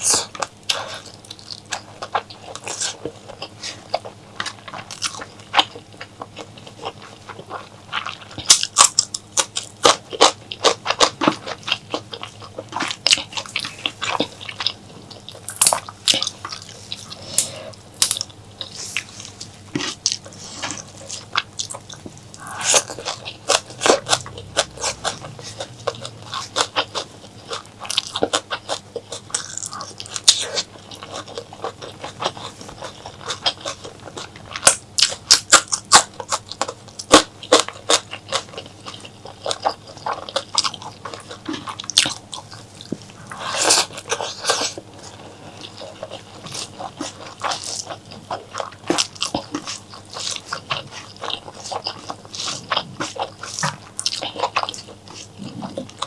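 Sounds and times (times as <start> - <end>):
close-miked chewing: 0.0 - 56.0.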